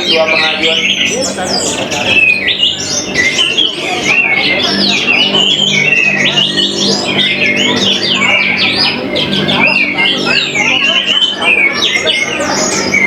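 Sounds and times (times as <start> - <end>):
birds singing whistled phrases: 0.0 - 13.0.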